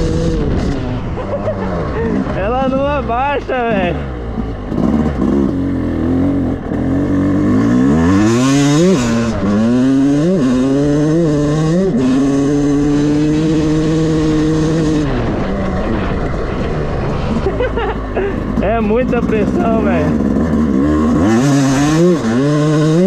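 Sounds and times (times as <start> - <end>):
two-stroke engine revving through gears: 0.0 - 23.0.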